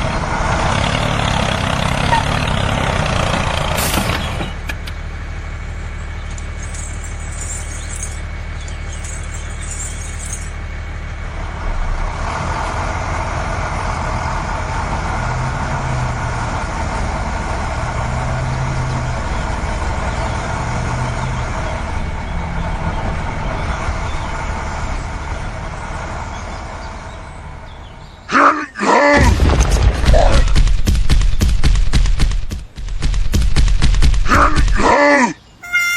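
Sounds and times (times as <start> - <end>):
vehicle engine running: 0.0 - 28.3, 29.3 - 34.9.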